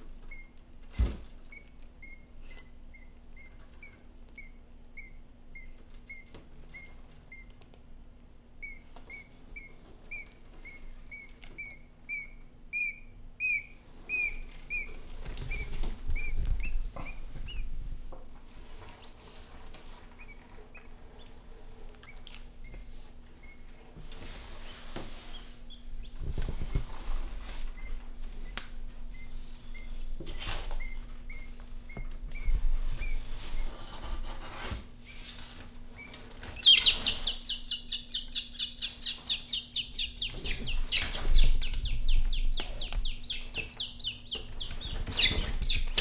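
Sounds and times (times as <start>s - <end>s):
quail chick peeping: 0.0s - 7.8s, 8.5s - 17.8s, 18.9s - 46.0s.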